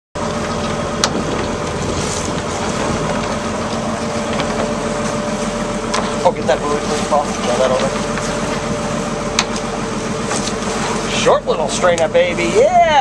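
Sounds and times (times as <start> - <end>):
boat engine running: 0.2 - 13.0
wind and water rushing: 0.2 - 13.0.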